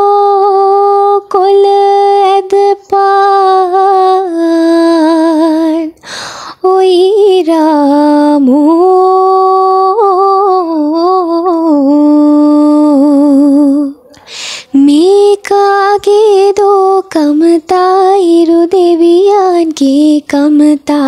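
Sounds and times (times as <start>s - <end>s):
girl singing unaccompanied: 0.0s - 21.0s.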